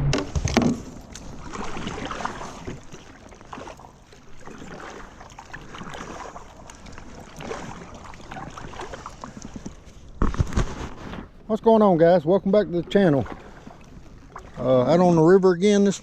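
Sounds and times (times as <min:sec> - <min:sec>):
water splashing and lapping: 0:00.0 - 0:16.0.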